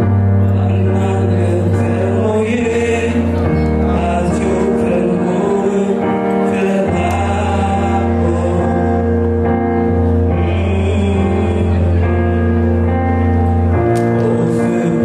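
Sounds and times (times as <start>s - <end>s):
instrumental accompaniment with bass: 0.0s - 15.0s
man singing into a microphone: 0.0s - 15.0s.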